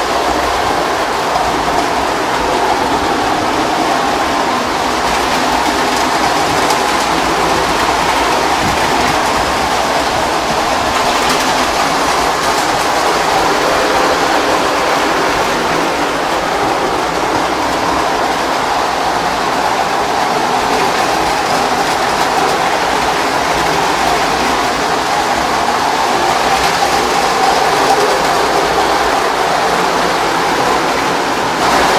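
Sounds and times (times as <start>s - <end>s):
toy trains whirring on metal track: 0.0s - 31.9s.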